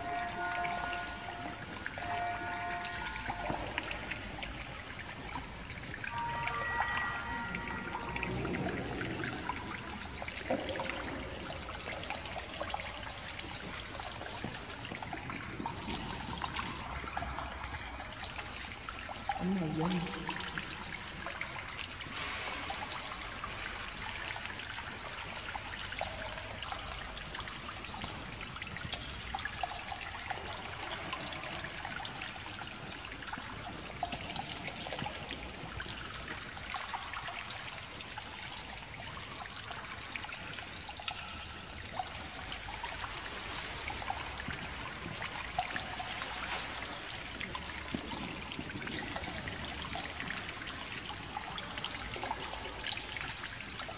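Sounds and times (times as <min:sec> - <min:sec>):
water trickling into a pool: 0:00.0 - 0:53.9.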